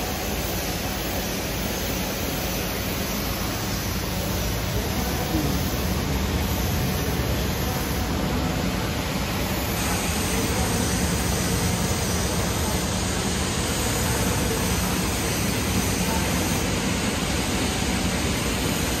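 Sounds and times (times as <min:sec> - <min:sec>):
workshop background rushing noise: 0:00.0 - 0:19.0.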